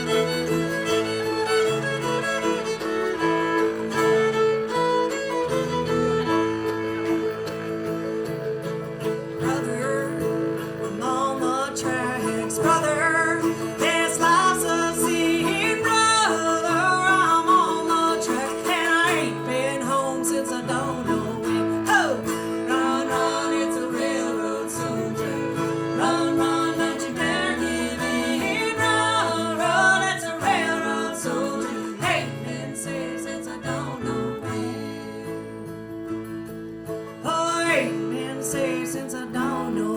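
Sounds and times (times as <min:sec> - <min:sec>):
bluegrass band playing: 0:00.0 - 0:39.9.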